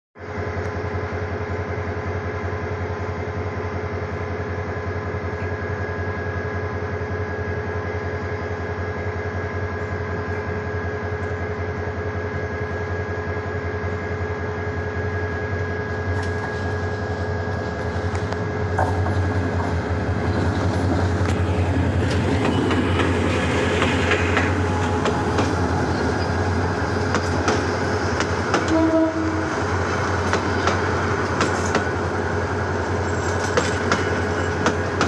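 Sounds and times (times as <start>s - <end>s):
diesel locomotive engine droning: 0.2s - 35.0s.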